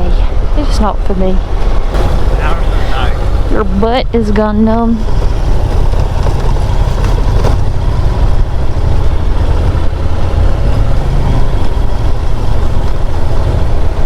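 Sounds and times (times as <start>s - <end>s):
wind rush: 0.0s - 14.0s
motorcycle engine: 1.4s - 14.0s.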